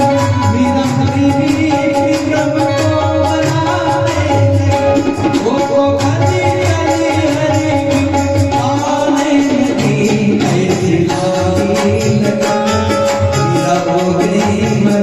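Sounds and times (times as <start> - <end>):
devotional singing: 0.0 - 15.0
steady percussion beat: 0.0 - 15.0.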